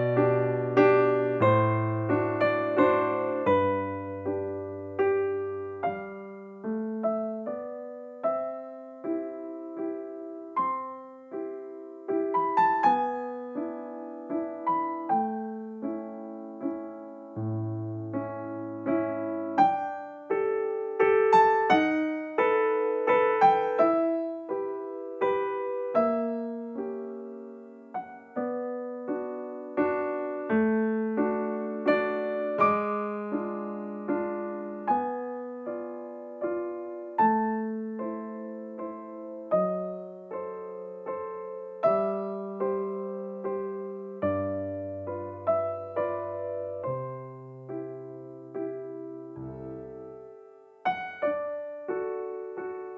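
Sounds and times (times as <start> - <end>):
gentle piano melody: 0.0 - 52.9.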